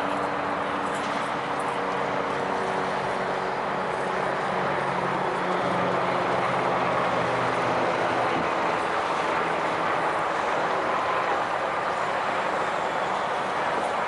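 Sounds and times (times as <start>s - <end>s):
diesel locomotive engine drone: 0.0s - 14.0s
steady rushing noise: 0.0s - 14.0s.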